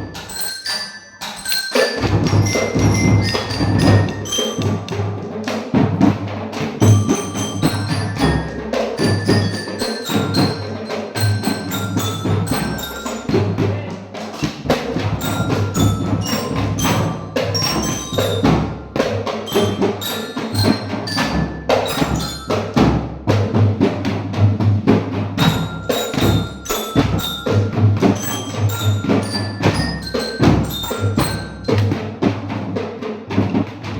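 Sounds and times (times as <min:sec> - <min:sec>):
mallets on tuned metal bars: 0:00.0 - 0:05.9, 0:06.5 - 0:23.6, 0:25.4 - 0:32.3
drums: 0:00.0 - 0:33.9.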